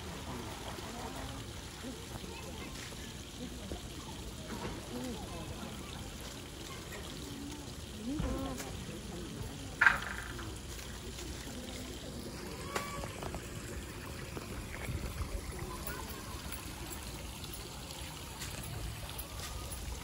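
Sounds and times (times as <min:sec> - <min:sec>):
faint distant voices: 0:00.0 - 0:20.0
water trickling: 0:00.0 - 0:20.0.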